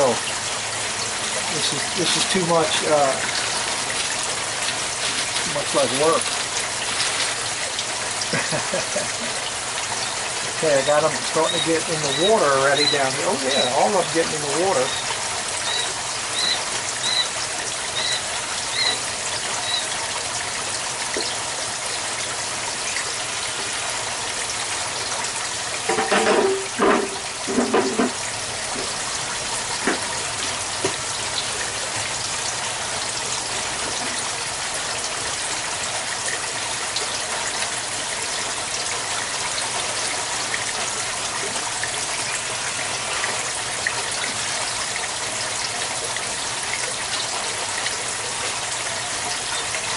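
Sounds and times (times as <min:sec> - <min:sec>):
water pouring from pipe: 0:00.0 - 0:49.9.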